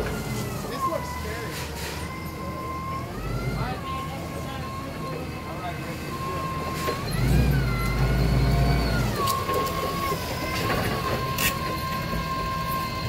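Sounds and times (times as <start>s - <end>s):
forklift engine revving: 1.6s - 13.0s.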